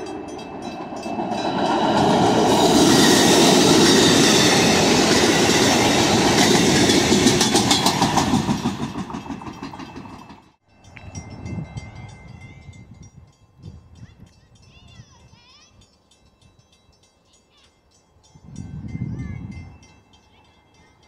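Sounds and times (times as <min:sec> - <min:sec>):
clatter of train wheels: 0:00.0 - 0:21.0
passenger train passing: 0:00.0 - 0:21.0.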